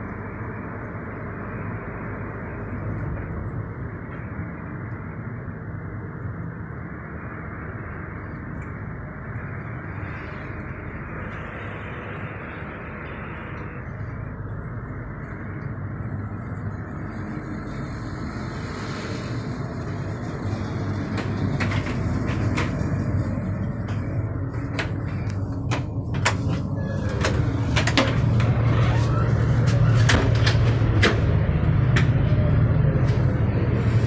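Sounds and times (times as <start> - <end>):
low rumble inside train coach: 0.0 - 34.0.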